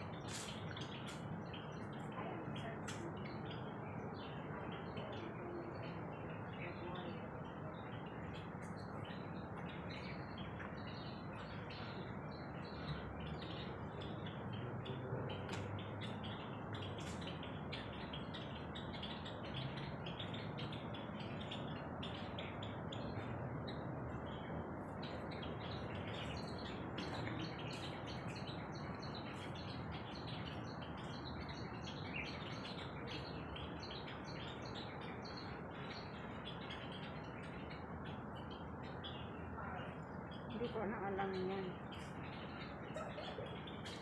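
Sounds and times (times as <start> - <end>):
many birds chirping: 0.0 - 44.0
steady background noise: 0.0 - 44.0.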